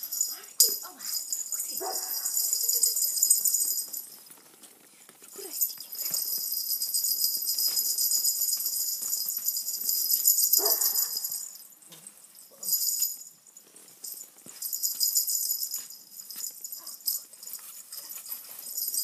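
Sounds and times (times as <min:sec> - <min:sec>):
high-pitched metallic jingling: 0:00.0 - 0:04.6, 0:05.3 - 0:19.0.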